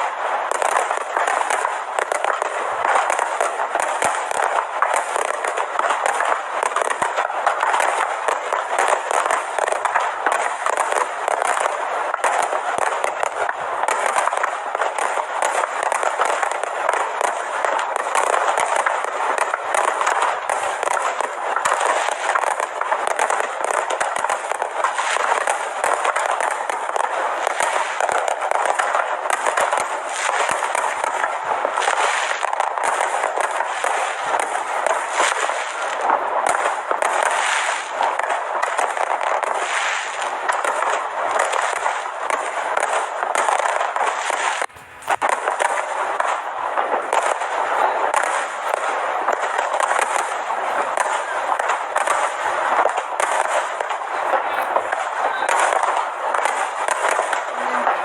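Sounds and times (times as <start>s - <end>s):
fireworks crackling and popping: 0.0s - 58.0s.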